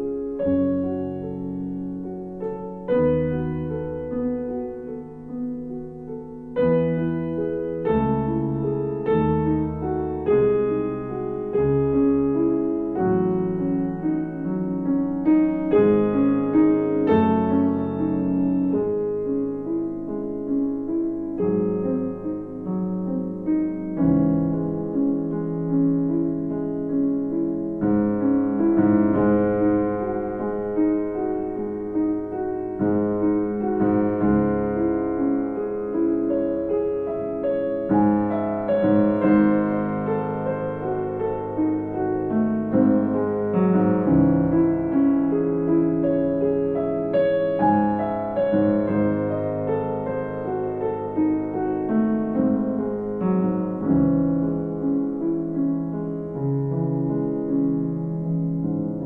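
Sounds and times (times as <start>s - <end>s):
slow solo piano chords: 0.0s - 59.0s.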